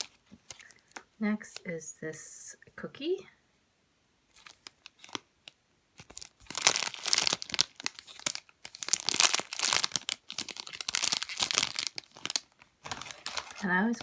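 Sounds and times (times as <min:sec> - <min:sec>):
plastic packaging crinkling: 0:00.0 - 0:01.6, 0:04.3 - 0:14.0.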